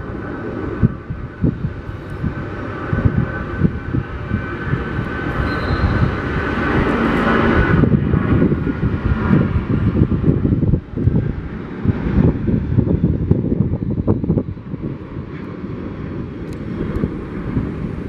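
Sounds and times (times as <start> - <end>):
high jet fan tone: 0.0 - 18.0
jet engine rumble: 0.0 - 18.0.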